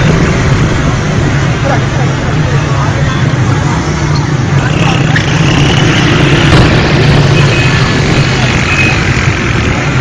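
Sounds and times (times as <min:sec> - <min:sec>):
vehicle road noise: 0:00.0 - 0:10.0.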